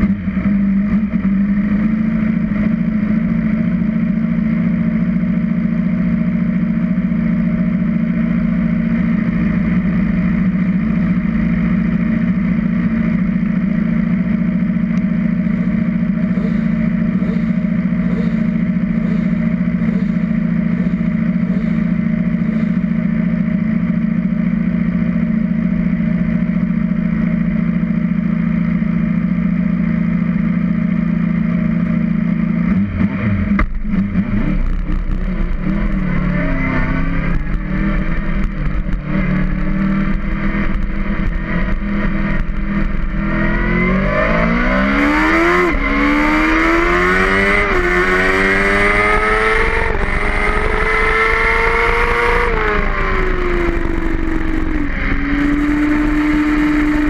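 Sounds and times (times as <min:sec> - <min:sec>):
motorcycle engine idling: 0:00.0 - 0:43.5, 0:49.2 - 0:57.0.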